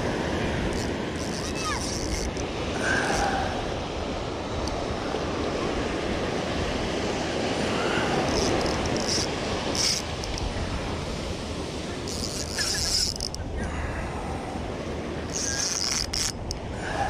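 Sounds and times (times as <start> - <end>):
ocean surf on shore: 0.0 - 17.0.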